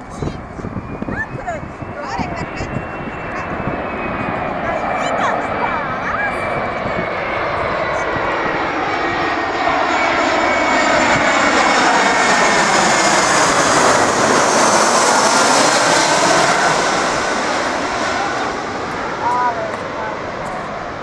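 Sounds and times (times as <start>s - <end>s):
jet plane passing overhead: 0.0s - 21.0s.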